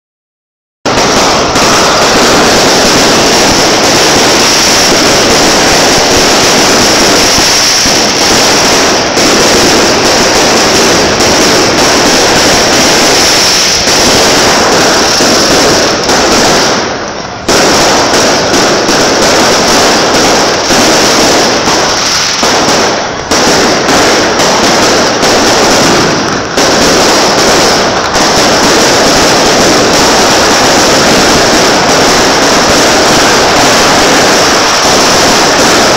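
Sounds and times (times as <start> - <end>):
bottle rockets and firecrackers crackling: 0.9 - 35.9.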